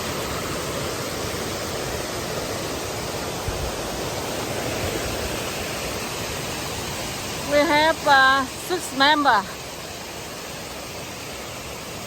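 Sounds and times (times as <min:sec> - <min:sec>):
brook water rushing: 0:00.0 - 0:12.0.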